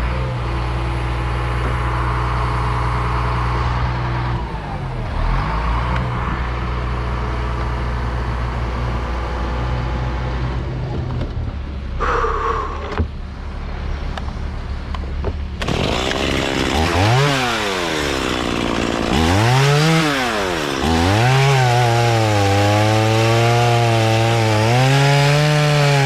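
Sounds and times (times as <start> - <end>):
large engine running: 0.0 - 24.6.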